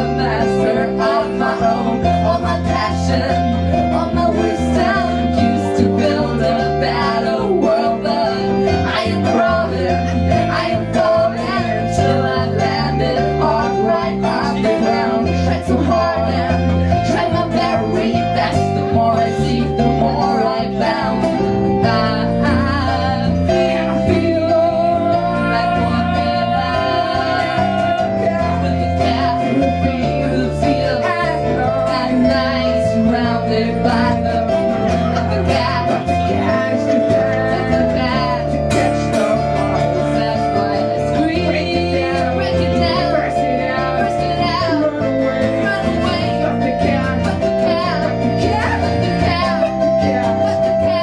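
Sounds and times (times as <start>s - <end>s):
bass line: 0.0s - 51.0s
drum beats: 0.0s - 51.0s
guitar: 0.0s - 51.0s
live rock band instrumental: 0.0s - 51.0s.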